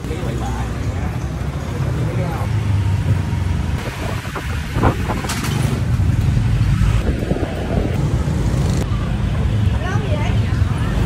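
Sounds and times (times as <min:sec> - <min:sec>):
scooter engines rumbling: 0:00.0 - 0:11.0.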